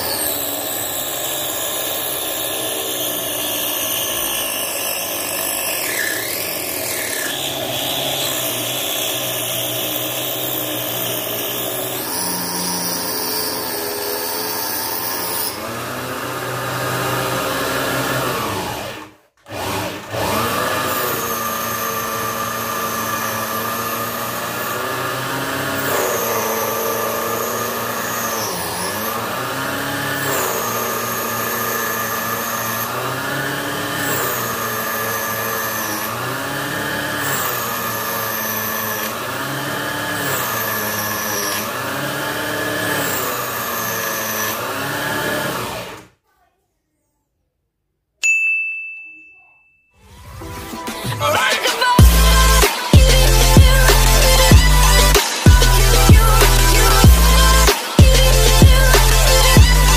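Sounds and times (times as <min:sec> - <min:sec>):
table saw motor whining: 0:00.0 - 0:46.2, 0:50.0 - 0:59.9.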